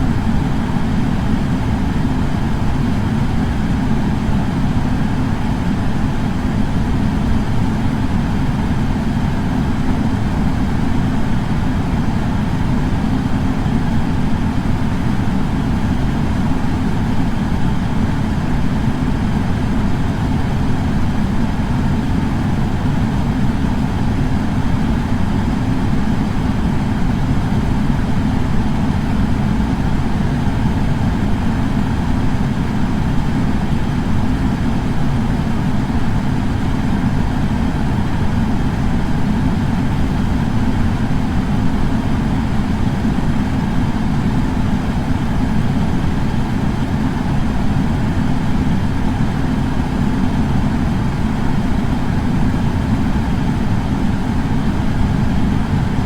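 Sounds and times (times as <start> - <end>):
air purifier fan running: 0.0 - 56.0.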